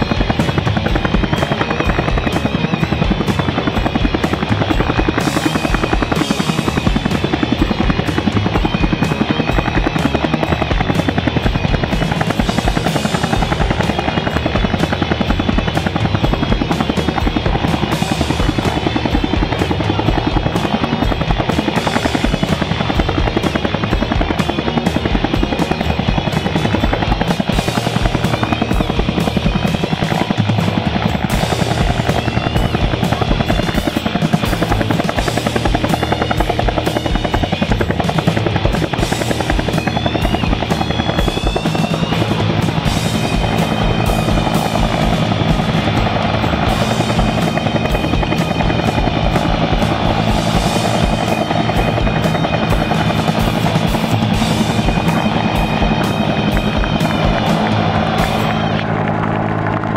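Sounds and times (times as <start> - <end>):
helicopter rotor chopping: 0.0 - 59.9.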